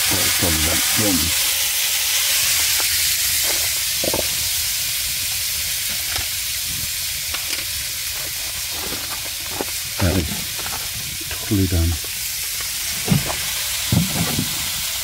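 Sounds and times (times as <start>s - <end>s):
fish sizzling in a pan: 0.0s - 15.0s
oil pops and crackles: 0.0s - 15.0s.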